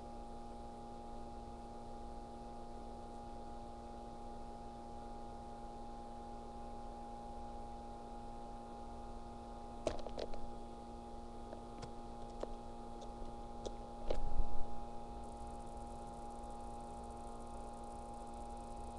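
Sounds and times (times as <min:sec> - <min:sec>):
electrical hum: 0:00.0 - 0:18.9.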